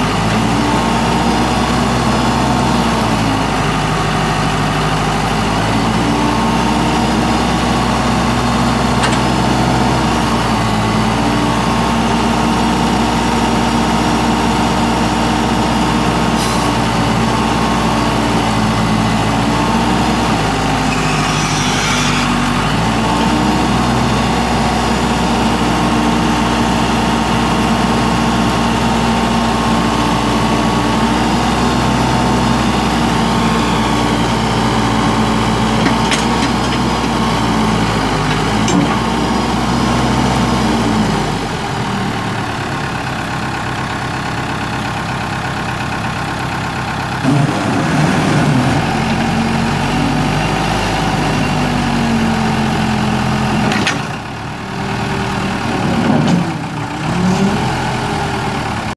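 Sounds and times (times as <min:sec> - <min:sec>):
backhoe diesel engine running: 0:00.0 - 0:58.9.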